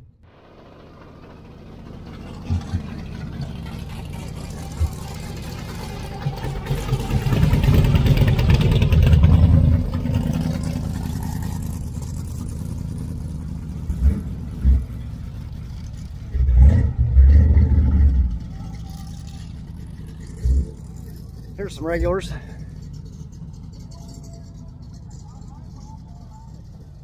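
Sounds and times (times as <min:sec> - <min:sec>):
supercharged engine running: 0:00.2 - 0:27.0.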